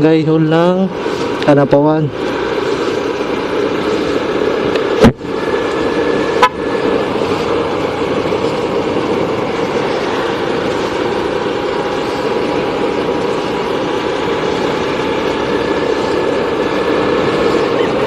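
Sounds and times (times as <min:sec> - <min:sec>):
vehicle road noise: 0:00.0 - 0:18.0.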